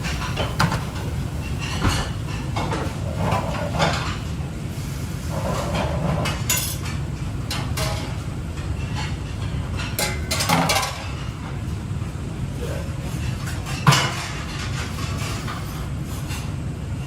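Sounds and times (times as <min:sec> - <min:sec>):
utensils and cookware clattering: 0:00.0 - 0:11.7, 0:12.6 - 0:16.6
steady low hum: 0:00.0 - 0:17.0.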